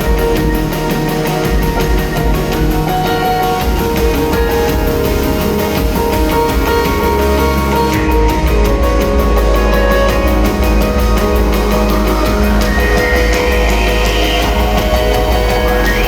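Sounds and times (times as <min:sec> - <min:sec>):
dense music with fast beat: 0:00.0 - 0:16.0
rising synth sweep: 0:00.0 - 0:16.0.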